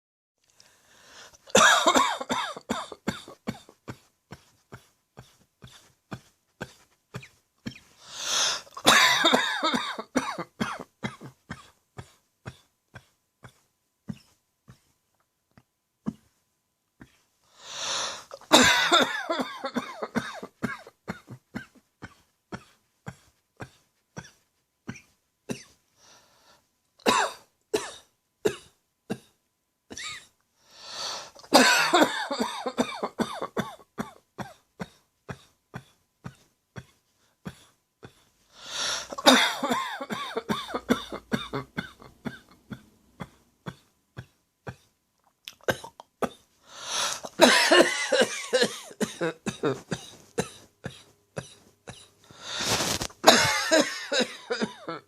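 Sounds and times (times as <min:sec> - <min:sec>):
person coughing harshly: 0:01.4 - 0:14.8, 0:17.8 - 0:25.8, 0:27.0 - 0:30.3, 0:31.2 - 0:44.9, 0:45.6 - 0:55.0.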